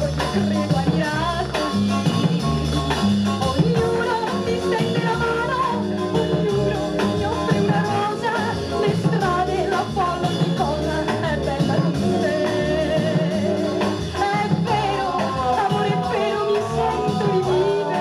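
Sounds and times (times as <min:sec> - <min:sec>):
song with singing over a beat: 0:00.0 - 0:18.0.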